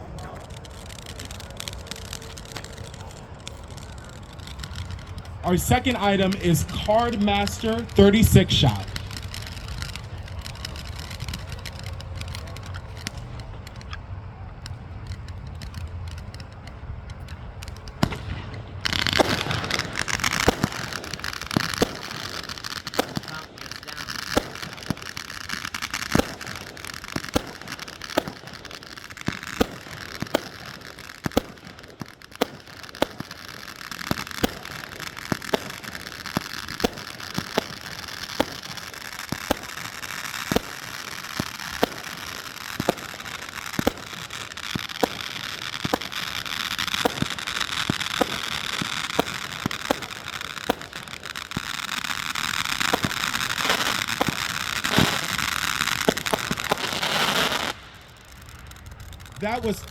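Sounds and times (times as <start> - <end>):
firework crackling: 0.0 - 59.9
firework shots popping: 0.0 - 59.9.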